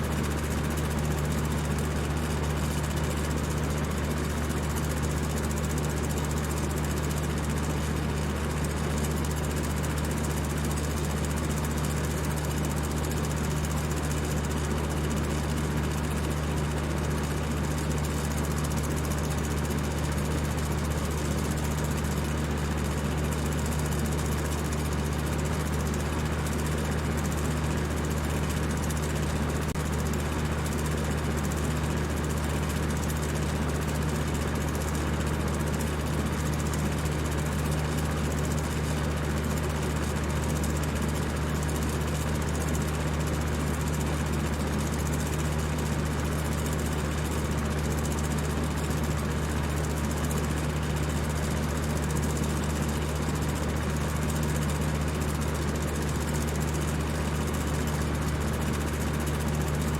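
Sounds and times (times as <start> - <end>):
electric fan running: 0.0 - 59.9.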